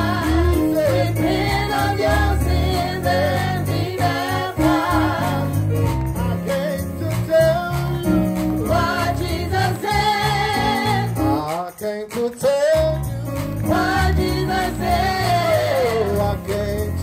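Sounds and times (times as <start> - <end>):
low chords and bass: 0.0 - 11.5, 12.8 - 17.0
person singing gospel: 0.0 - 17.0.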